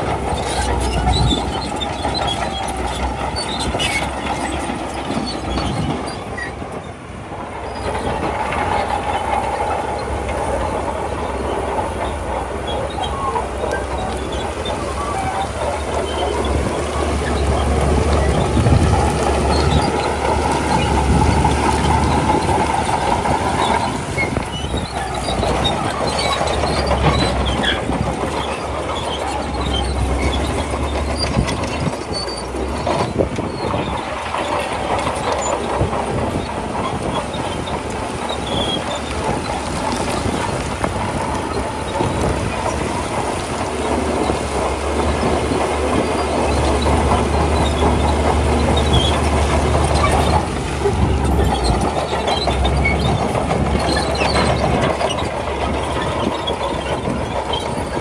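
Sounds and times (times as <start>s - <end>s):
bulldozer diesel engine under load: 0.0s - 58.0s
steel tracks clanking and squealing: 0.0s - 58.0s.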